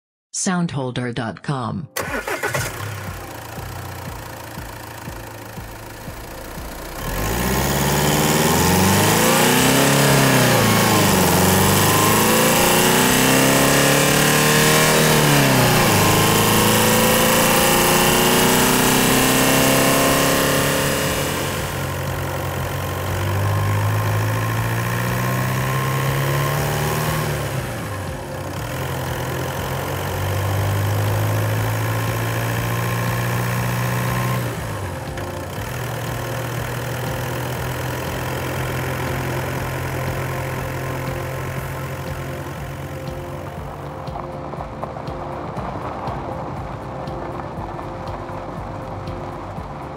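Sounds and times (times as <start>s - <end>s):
diesel car engine revving: 2.0s - 49.9s.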